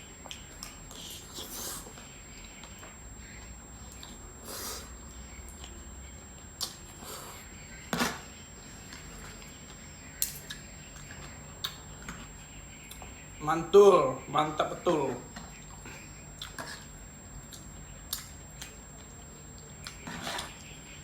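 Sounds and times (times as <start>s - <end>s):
soft chewing: 0.0s - 7.7s, 8.7s - 13.2s, 15.4s - 21.0s.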